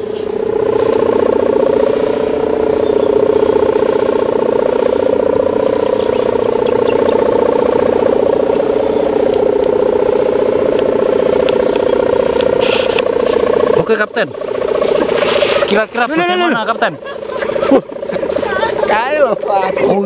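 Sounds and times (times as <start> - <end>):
kite hummer buzzing: 0.0 - 20.0.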